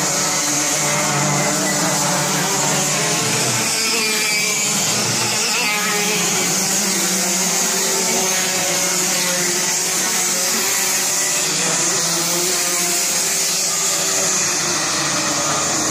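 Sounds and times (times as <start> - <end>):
racing kart engines passing: 0.0 - 15.9.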